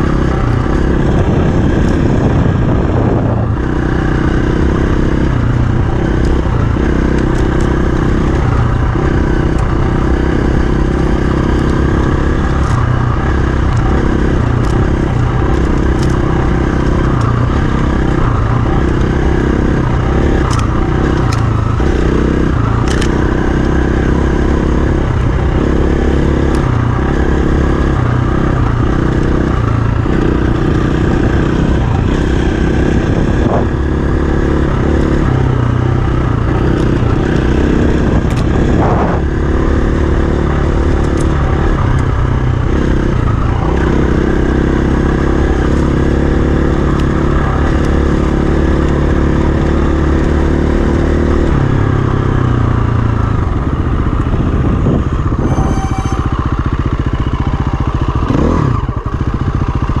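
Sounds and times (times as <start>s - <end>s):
dirt bike engine running: 0.0s - 60.0s.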